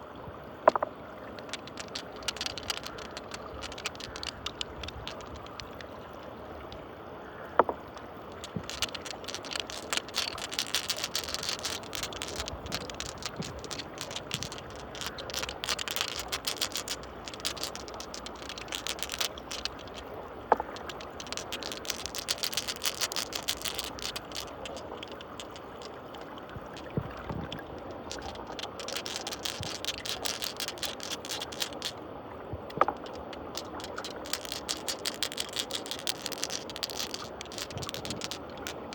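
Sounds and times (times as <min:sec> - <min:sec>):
glass marbles clicking and rattling: 0:00.7 - 0:06.8, 0:07.5 - 0:32.0, 0:32.7 - 0:38.9
water swirling: 0:07.7 - 0:38.9.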